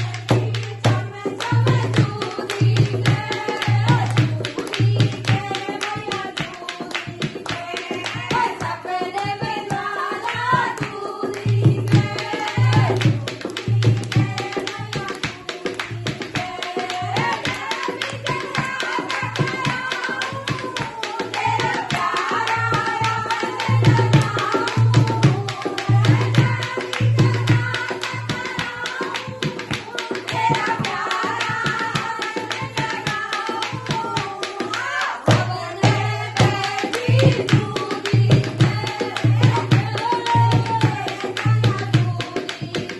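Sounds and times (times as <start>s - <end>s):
dholak playing fast rhythm: 0.0s - 42.9s.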